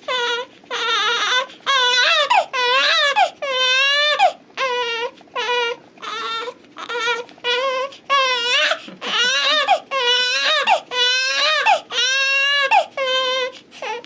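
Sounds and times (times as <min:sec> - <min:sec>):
infant crying: 0:00.0 - 0:14.0.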